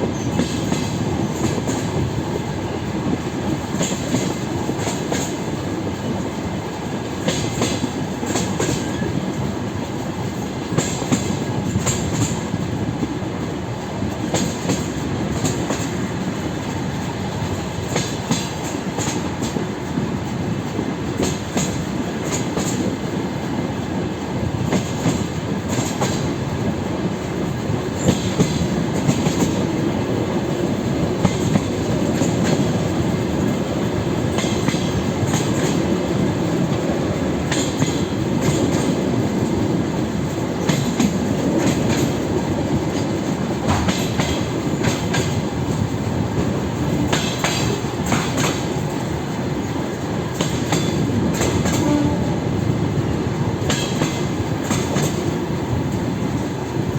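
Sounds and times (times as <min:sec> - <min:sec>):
train running rumble: 0:00.0 - 0:56.9.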